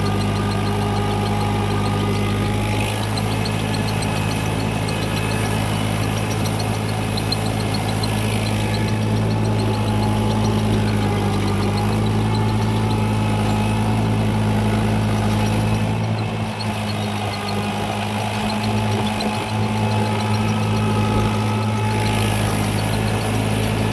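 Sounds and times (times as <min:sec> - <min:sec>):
fast light ticking: 0:00.0 - 0:23.9
tractor engine running: 0:00.0 - 0:23.9.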